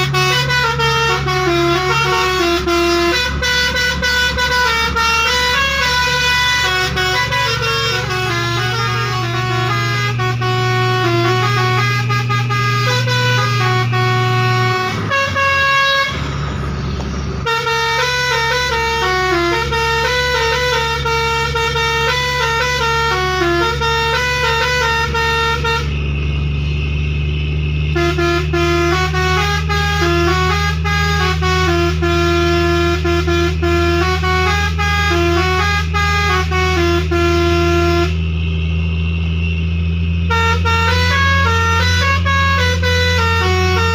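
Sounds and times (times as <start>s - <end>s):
musical truck air horn tune: 0.0s - 43.9s
truck engine humming: 0.0s - 43.9s.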